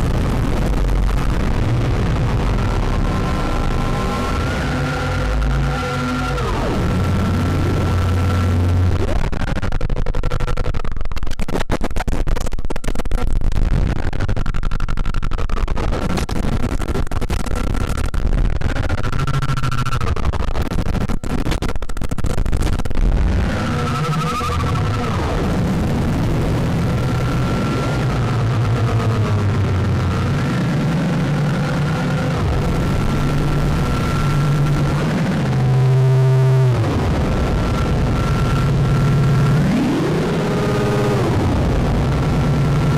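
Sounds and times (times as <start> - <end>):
low synthesizer drone: 0.0 - 11.5, 16.8 - 42.9
rapid crackling stutter: 0.0 - 42.9.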